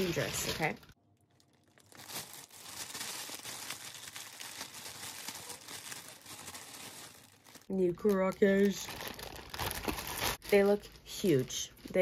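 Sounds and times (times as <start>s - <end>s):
packaging crinkling: 0.0s - 11.2s.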